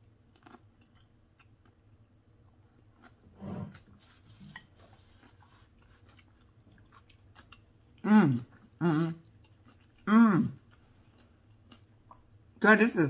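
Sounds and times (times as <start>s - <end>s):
chewing raw vegetables: 0.0s - 12.6s.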